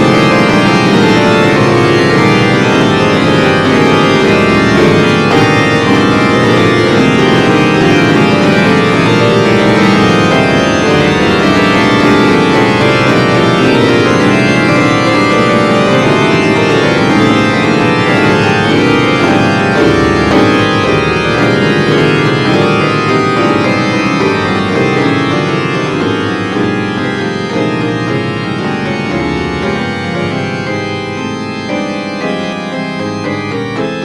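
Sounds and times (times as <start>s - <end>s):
sustained keyboard chords: 0.0s - 34.0s.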